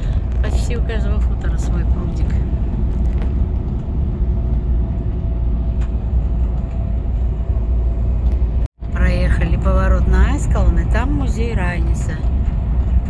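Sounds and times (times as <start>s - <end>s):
diesel engine rumble: 0.0s - 13.0s
tyres on the road: 0.0s - 13.0s.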